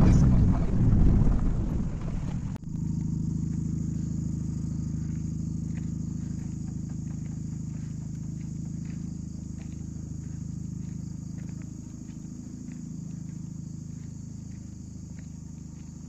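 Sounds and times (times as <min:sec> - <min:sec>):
insects buzzing: 0:00.0 - 0:16.0
rumbling inside moving car: 0:00.0 - 0:16.0
steady low tonal hum: 0:00.0 - 0:16.0.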